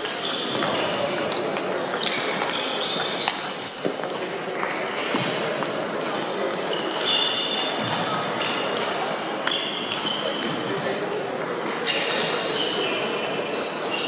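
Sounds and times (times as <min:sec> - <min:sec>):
shoes squeaking on floor: 0:00.0 - 0:08.8, 0:09.4 - 0:10.9, 0:11.6 - 0:14.0
din of large hall: 0:00.0 - 0:14.0.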